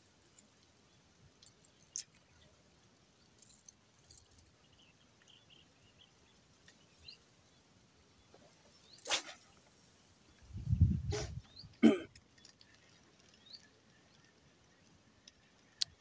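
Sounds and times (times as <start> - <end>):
faint high chirps and ticks: 0.0 - 10.8, 11.4 - 16.0
faint outdoor ambience: 0.0 - 16.0.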